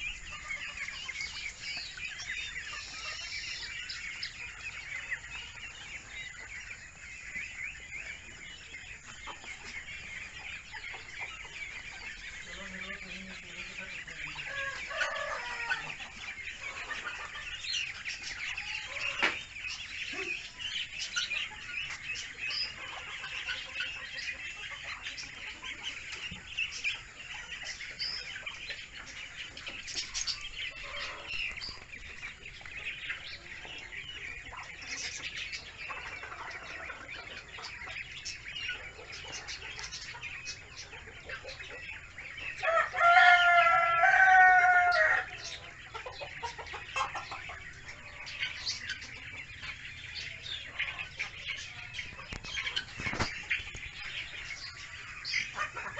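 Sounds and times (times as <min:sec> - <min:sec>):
ducklings peeping: 0:00.0 - 0:55.9.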